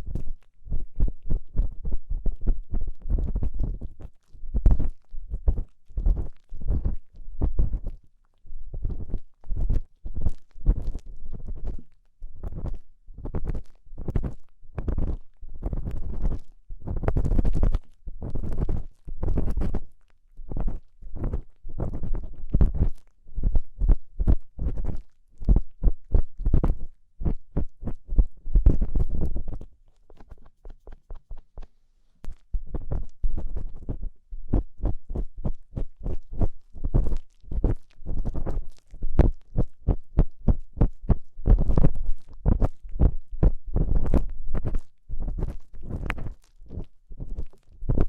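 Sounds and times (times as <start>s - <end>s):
ear-cleaning tool scraping microphone: 0.0s - 8.0s, 8.7s - 19.9s, 20.5s - 48.0s.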